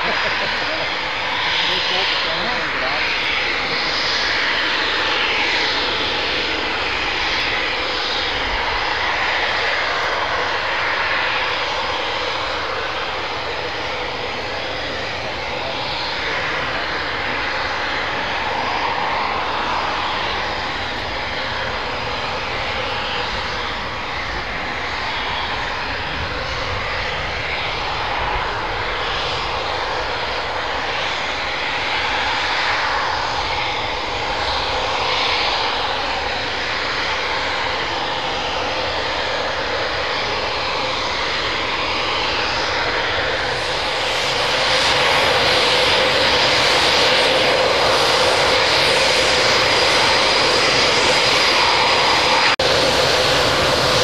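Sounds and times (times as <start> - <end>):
jet engines whining and hissing: 0.0 - 54.0.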